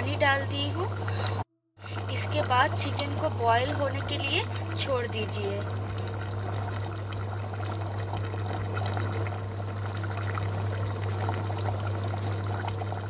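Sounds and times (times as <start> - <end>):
steady low hum: 0.0 - 13.0
curry bubbling and popping: 0.4 - 13.0.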